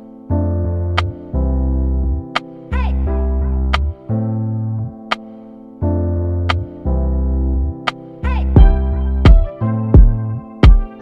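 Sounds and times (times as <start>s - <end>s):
sustained keyboard chords: 0.0s - 11.0s
deep bass: 0.5s - 5.0s, 6.1s - 10.8s.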